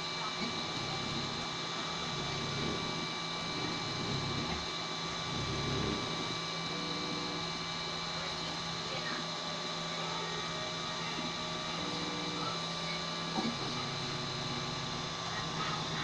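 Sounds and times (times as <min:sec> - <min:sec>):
constant hum: 0:00.0 - 0:16.0
stepper motors whining: 0:00.0 - 0:16.0.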